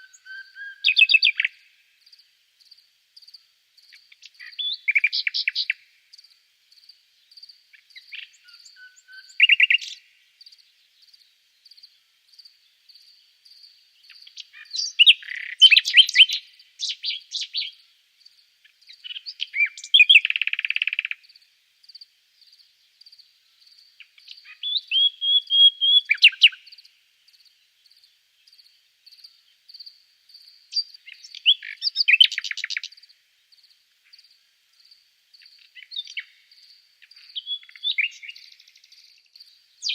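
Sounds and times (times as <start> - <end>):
high insect chirp: 0.0 - 39.9
nightingale singing: 0.0 - 39.9.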